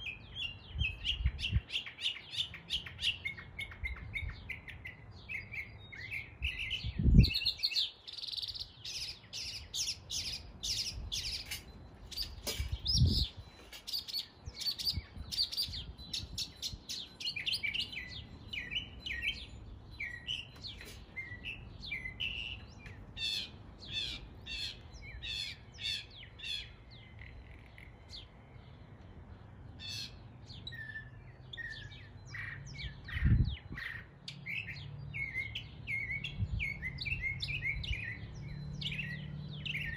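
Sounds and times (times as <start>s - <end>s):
mockingbird singing: 0.0s - 39.9s.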